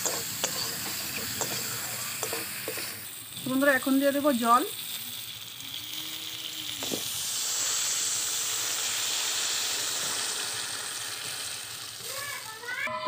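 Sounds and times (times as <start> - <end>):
water hissing in hot oil: 0.0 - 12.9.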